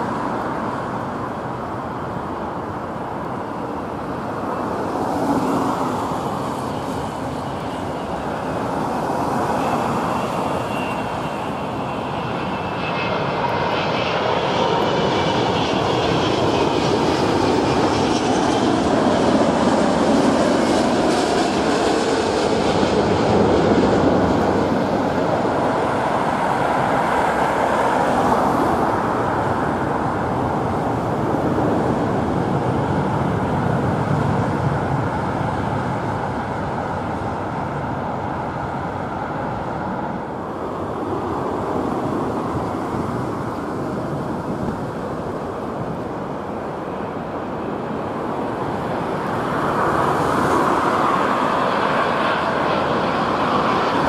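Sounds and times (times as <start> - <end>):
jet engines rumbling: 0.0 - 54.0
road traffic noise: 0.0 - 54.0.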